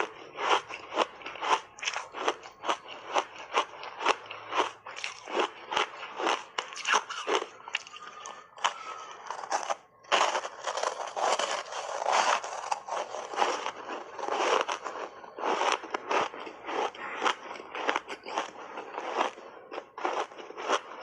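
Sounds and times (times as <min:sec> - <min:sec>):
ice crunching being chewed: 0:00.0 - 0:21.0.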